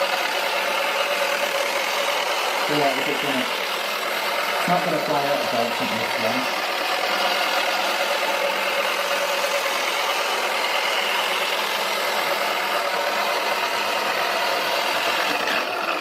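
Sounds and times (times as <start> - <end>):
small electric motor whirring: 0.0 - 16.0.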